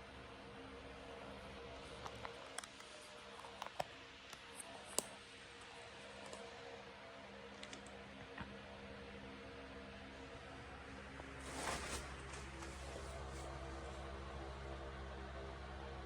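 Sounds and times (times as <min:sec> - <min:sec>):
ceiling fan motor humming: 0:00.0 - 0:16.0.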